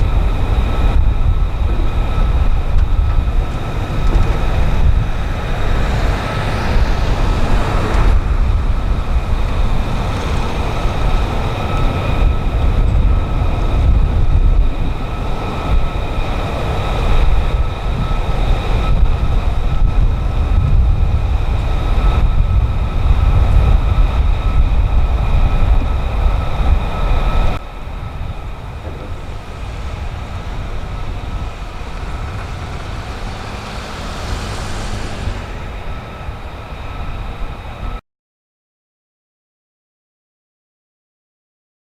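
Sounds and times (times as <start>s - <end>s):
jet engine deep rumble: 0.0s - 38.0s
jet engine steady whine: 0.0s - 38.0s.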